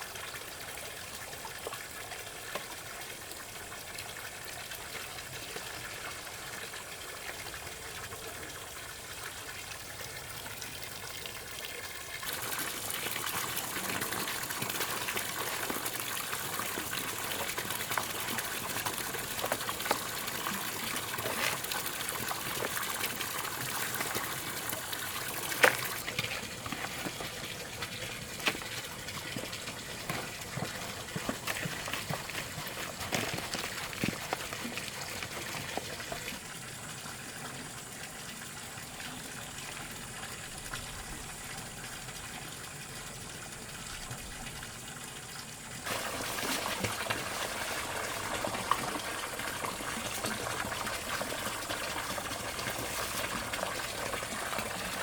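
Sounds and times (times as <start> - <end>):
water running and splashing: 0.0 - 55.0.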